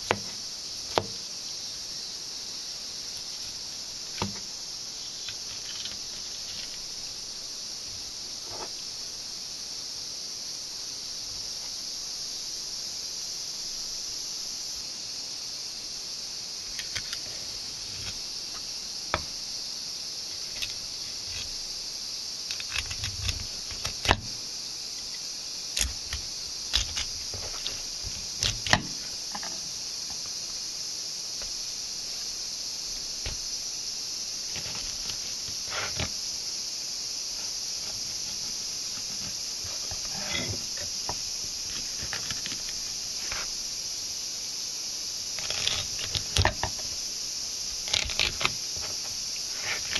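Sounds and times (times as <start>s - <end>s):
steady high hiss: 0.0s - 49.9s.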